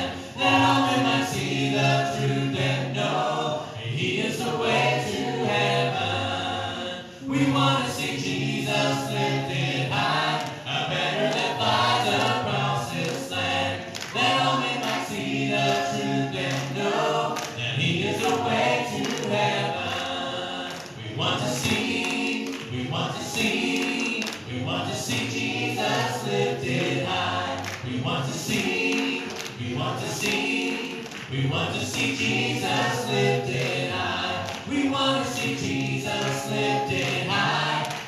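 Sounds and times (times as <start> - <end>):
group singing a worship song: 0.0 - 38.0.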